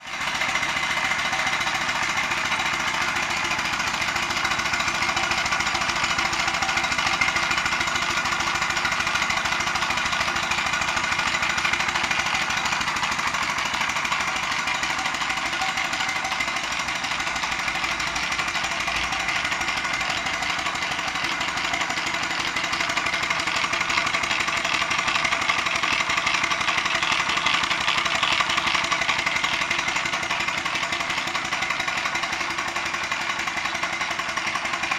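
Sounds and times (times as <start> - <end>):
steam traction engine running: 0.0 - 34.9.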